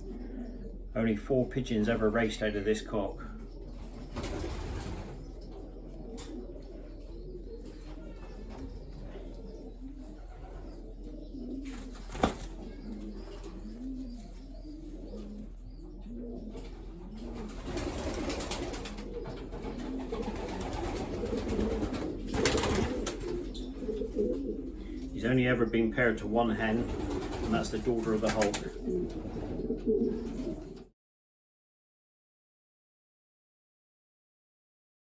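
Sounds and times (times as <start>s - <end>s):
pigeons cooing: 0.0s - 30.9s.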